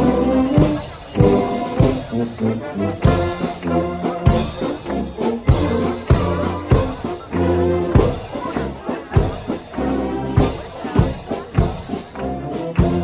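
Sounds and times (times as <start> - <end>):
bass drum beats: 0.0 - 9.5, 10.4 - 13.0
brass band playing a march: 0.0 - 13.0.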